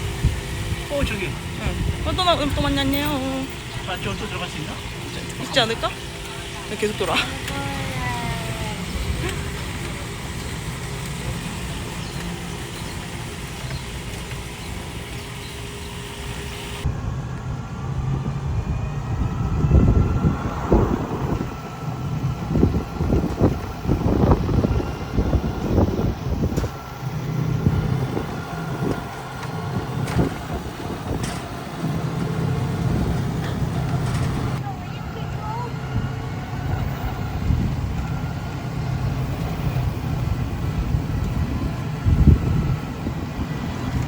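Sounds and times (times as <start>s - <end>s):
wind buffeting microphone: 0.0s - 15.7s, 16.7s - 44.0s
electric cart hum and road noise: 0.0s - 44.0s.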